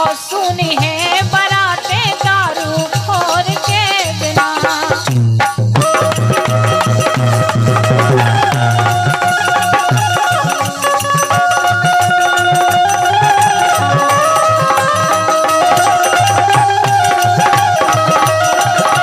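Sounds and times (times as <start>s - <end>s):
barrel drum beat: 0.0s - 19.0s
harmonium melody: 0.0s - 19.0s.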